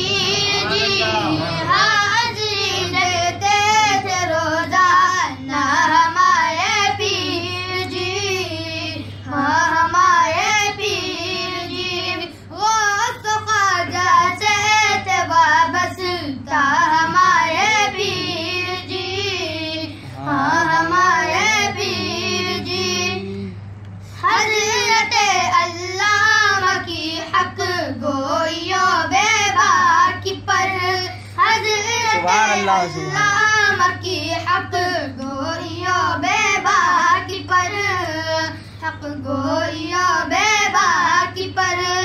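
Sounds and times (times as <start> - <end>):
young voice singing: 0.0 - 23.5, 24.2 - 42.0.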